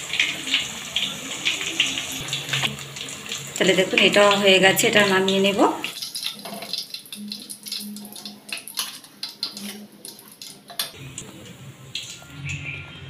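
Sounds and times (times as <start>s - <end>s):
hot oil crackling: 0.0s - 13.0s.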